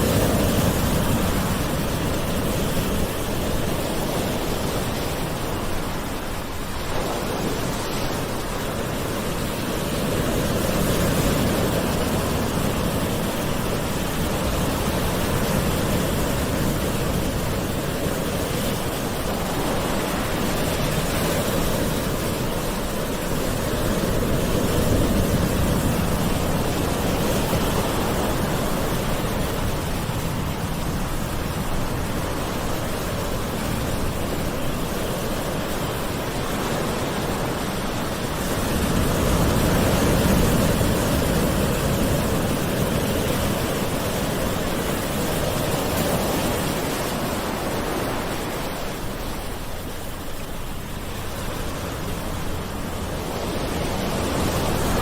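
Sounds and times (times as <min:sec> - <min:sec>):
ocean waves: 0:00.0 - 0:55.0.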